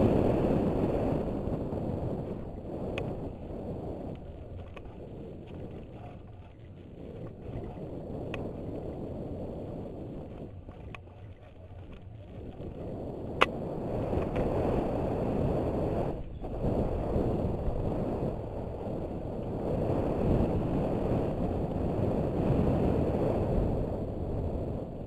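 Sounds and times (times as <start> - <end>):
wind rushing over camera: 0.0 - 25.0.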